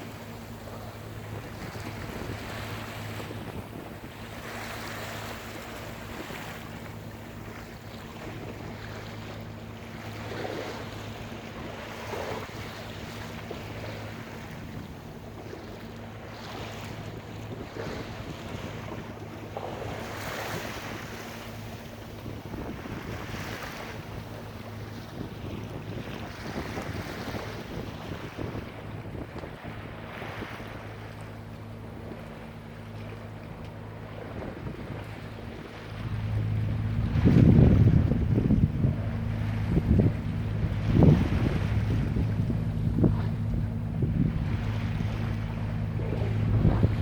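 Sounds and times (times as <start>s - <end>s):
wind buffeting microphone: 0.0s - 32.4s, 33.1s - 47.0s
boat engine droning: 0.0s - 47.0s.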